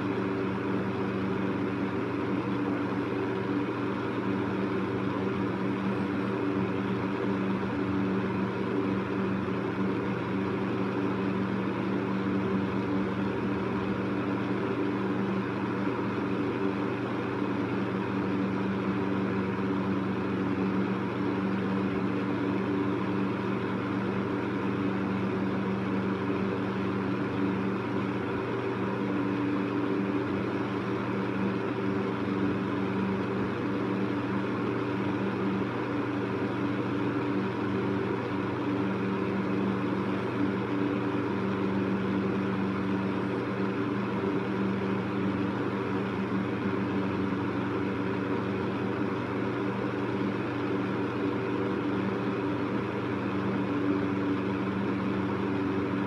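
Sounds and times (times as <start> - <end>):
electric fan motor hum: 0.0 - 56.0.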